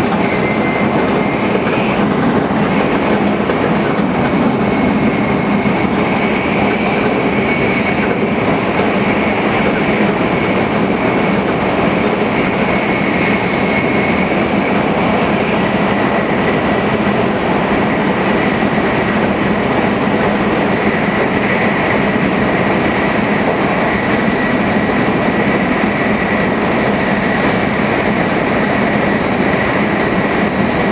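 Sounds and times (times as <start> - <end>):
train rushing at high speed: 0.0 - 30.9.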